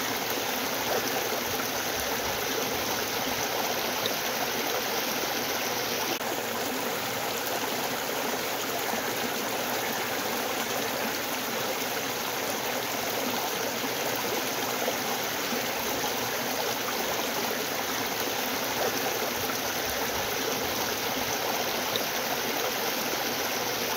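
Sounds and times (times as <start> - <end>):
river water rushing over stones: 0.0 - 23.9.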